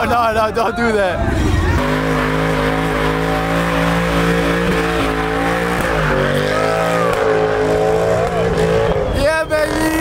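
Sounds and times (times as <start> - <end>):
car engine revving high: 1.3 - 10.0.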